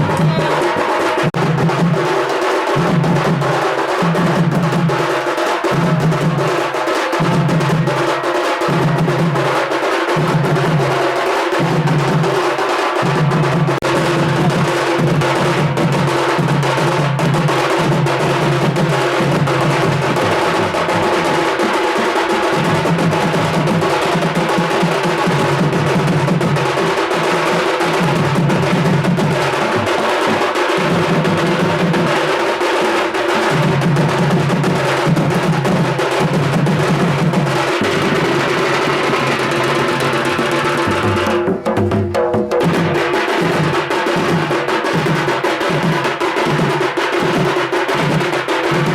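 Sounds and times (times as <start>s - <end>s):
fast drumming and clacking: 0.0s - 48.9s.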